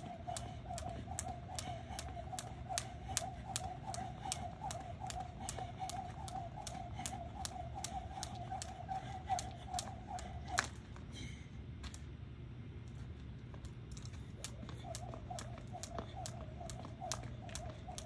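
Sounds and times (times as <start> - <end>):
jump rope slapping pavement: 0.0 - 11.0, 14.0 - 18.0.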